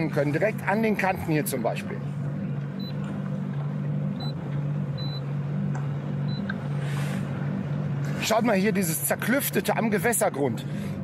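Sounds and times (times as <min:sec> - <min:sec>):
jet ski engine humming: 0:00.0 - 0:11.0.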